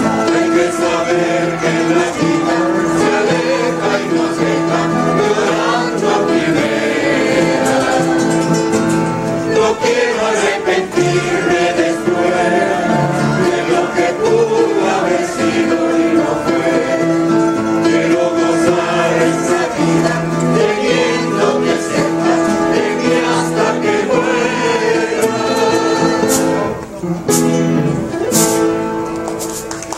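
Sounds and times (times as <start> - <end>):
choir singing: 0.0 - 26.9
acoustic guitar: 0.0 - 29.9.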